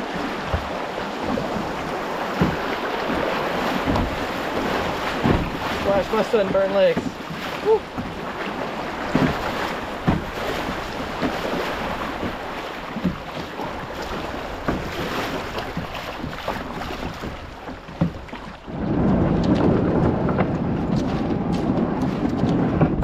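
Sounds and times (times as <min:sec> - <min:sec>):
creek water rushing: 0:00.0 - 0:19.8
kayak paddle splashes: 0:00.0 - 0:23.0.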